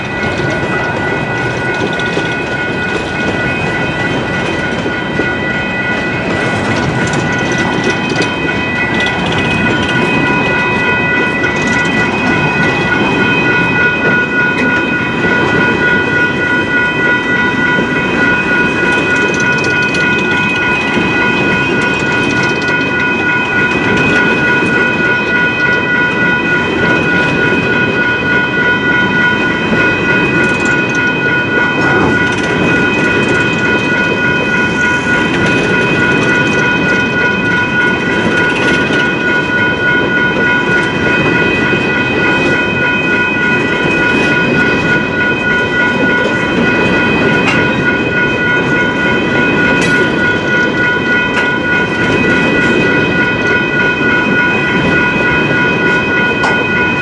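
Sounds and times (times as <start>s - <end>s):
crossing warning bell ringing: 0.0s - 57.0s
train rumble and wheel clatter: 0.0s - 57.0s.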